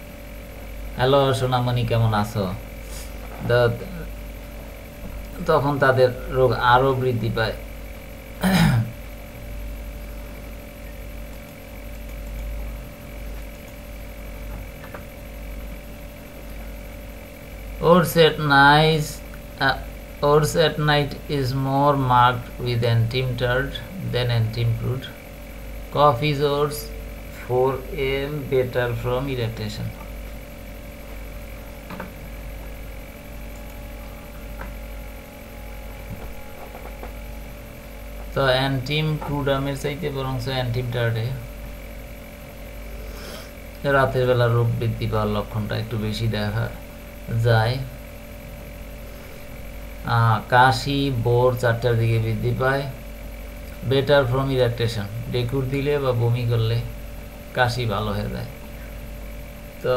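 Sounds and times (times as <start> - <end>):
background hiss: 0.0 - 59.9
faint steady tones: 0.0 - 59.9
low background hum: 0.0 - 59.9.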